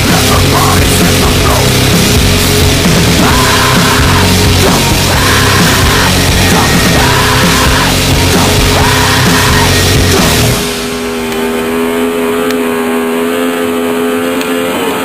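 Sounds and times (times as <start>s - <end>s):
loud rock music: 0.0s - 12.1s.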